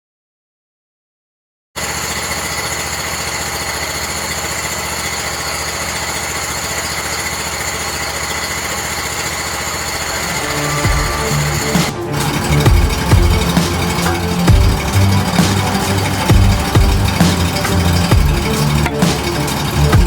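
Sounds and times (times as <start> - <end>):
sawmill engine humming: 1.8 - 20.0
high whines: 1.9 - 20.0.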